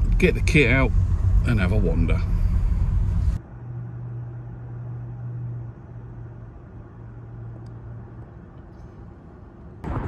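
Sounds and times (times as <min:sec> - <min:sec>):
car engine hum inside cabin: 0:00.0 - 0:08.7.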